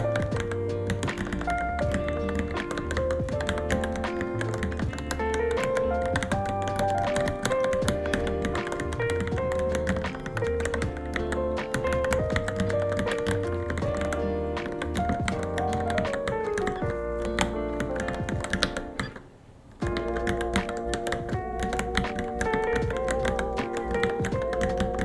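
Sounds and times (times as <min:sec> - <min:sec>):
background music: 0:00.0 - 0:19.2, 0:19.8 - 0:25.0
fast mechanical keyboard typing: 0:00.0 - 0:19.2, 0:19.8 - 0:25.0.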